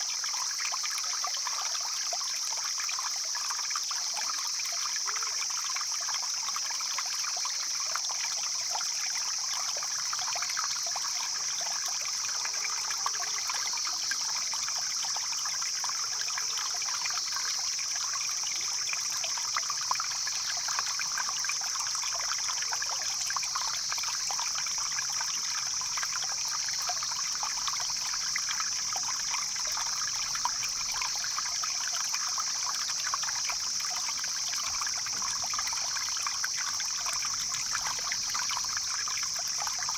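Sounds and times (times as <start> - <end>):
stream splashing and trickling: 0.0 - 39.9.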